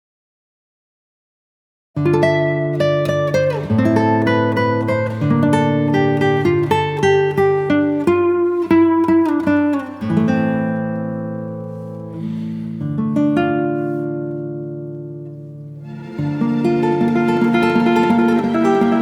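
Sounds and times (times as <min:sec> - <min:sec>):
plucked acoustic guitar melody: 0:02.0 - 0:19.0.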